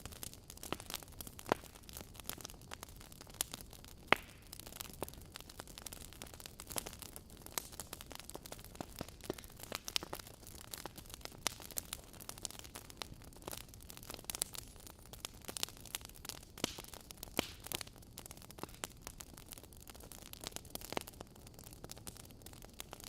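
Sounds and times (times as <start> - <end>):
low hiss of fire: 0.0 - 23.0
wood fire crackling: 0.0 - 23.0.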